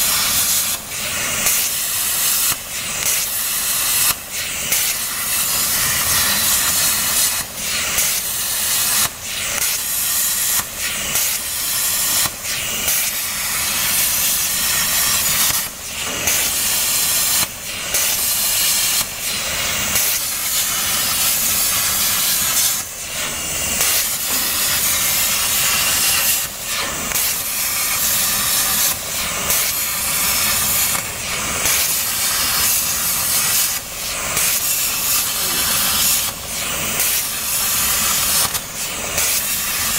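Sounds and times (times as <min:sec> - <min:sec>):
plasma torch arc hissing: 0:00.0 - 0:39.9.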